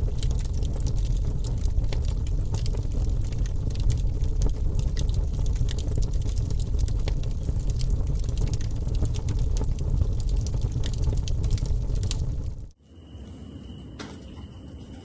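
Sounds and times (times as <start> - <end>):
raindrops striking close by: 0.0 - 12.8.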